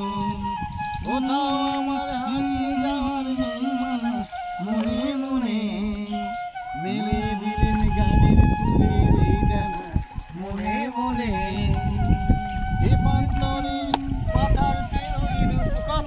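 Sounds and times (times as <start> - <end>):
man singing slow melody: 0.0 - 16.0.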